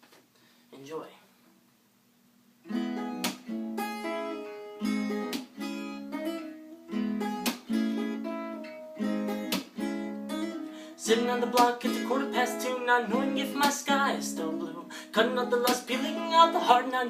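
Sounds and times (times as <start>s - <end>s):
acoustic guitar strumming chords: 2.6s - 17.0s.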